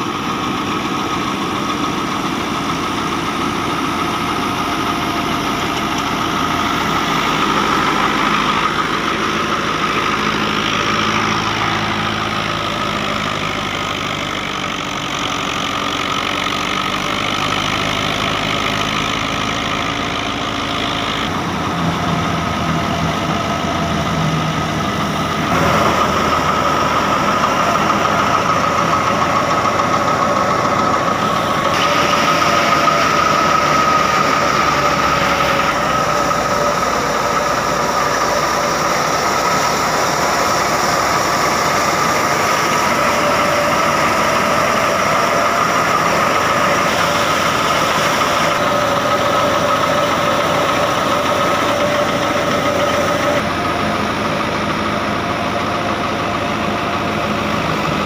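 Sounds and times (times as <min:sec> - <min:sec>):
thresher drum and belts whirring: 0:00.0 - 0:58.0
tractor diesel engine running: 0:00.0 - 0:58.0.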